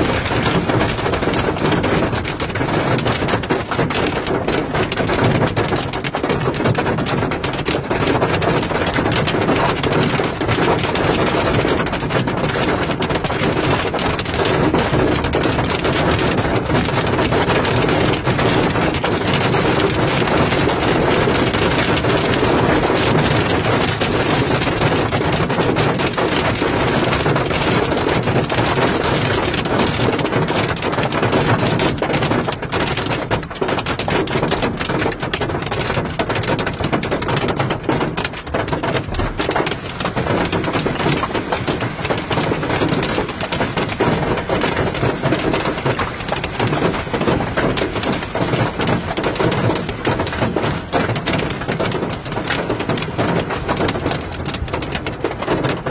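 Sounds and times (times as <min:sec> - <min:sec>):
hail and rain on hard surface: 0:00.0 - 0:55.9.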